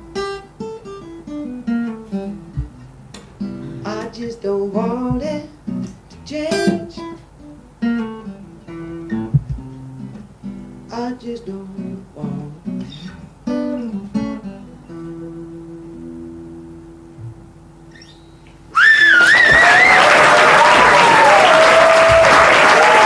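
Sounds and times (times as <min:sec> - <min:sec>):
acoustic guitar strummed and picked: 0:00.0 - 0:18.8.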